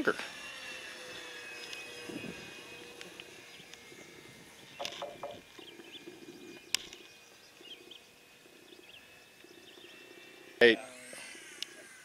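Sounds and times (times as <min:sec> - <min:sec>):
model airplane drone: 0:00.0 - 0:12.0.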